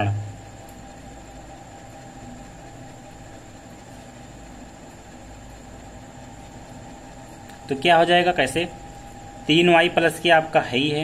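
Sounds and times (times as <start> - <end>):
faint steady tones: 0.0 - 11.0
room noise hum and hiss: 0.0 - 11.0.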